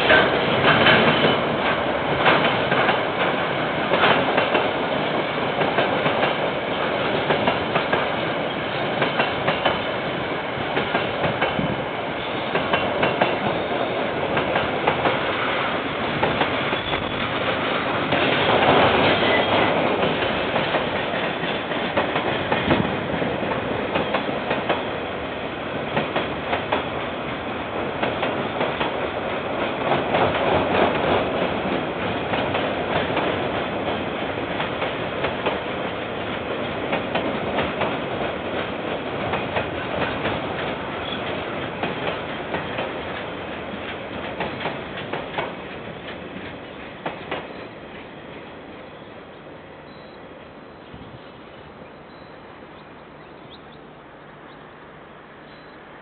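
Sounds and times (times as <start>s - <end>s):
wheels clacking over rail joints: 0.0s - 10.0s, 10.6s - 24.9s, 25.8s - 48.6s
freight train rumbling: 0.0s - 56.0s.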